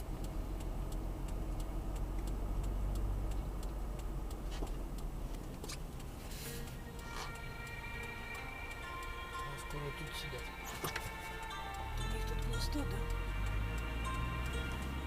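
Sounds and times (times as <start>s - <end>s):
car cabin rumble: 0.0s - 15.0s
indicator flasher ticking: 0.0s - 15.0s.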